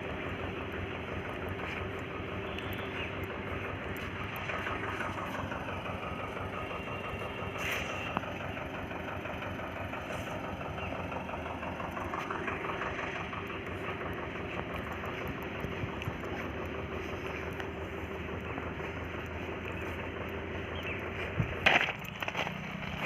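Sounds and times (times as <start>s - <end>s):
machinery engine rumbling: 0.0s - 23.0s.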